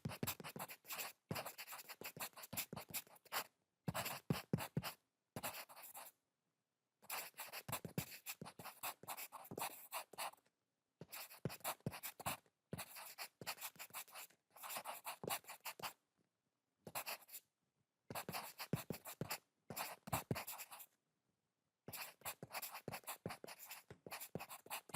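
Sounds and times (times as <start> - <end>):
pencil scratching on paper: 0.0 - 6.1, 7.1 - 10.4, 11.0 - 16.0, 16.9 - 17.4, 18.1 - 20.9, 21.9 - 24.9.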